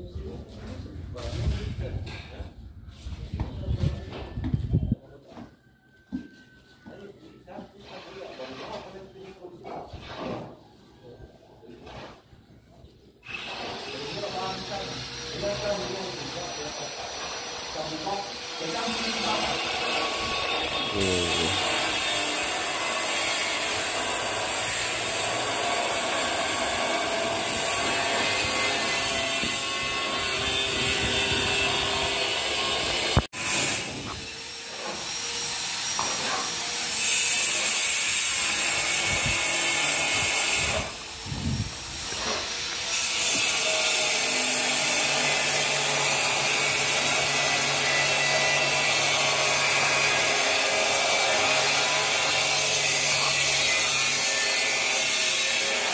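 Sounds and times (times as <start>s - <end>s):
trowel scraping plaster: 7.6s - 10.9s, 11.6s - 12.6s, 13.2s - 55.9s.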